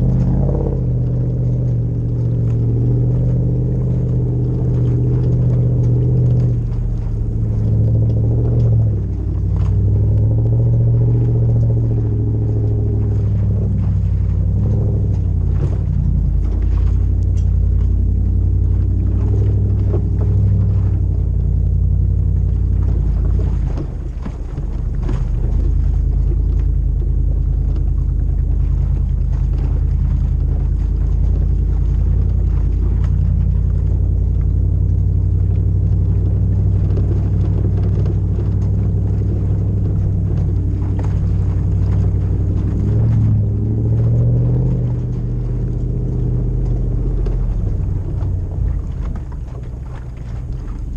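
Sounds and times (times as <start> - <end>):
car engine deep rumble: 0.0 - 50.9.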